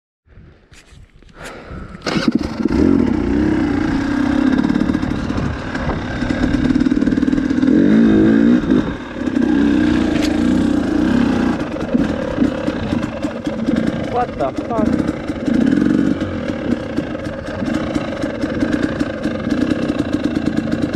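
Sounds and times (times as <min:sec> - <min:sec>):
dirt bike engine revving: 0:02.0 - 0:20.9.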